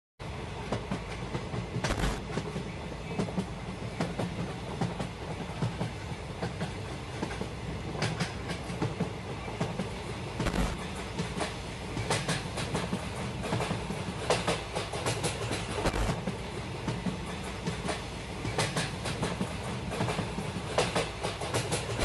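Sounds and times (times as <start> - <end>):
train rumbling on track: 0.2 - 22.0
wheels clacking over rail joints: 0.7 - 22.0.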